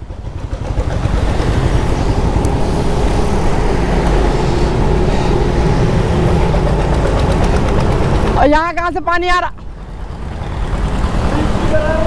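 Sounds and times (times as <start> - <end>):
motorcycle engine running: 0.0 - 8.9, 9.6 - 12.0
road noise: 0.0 - 12.0.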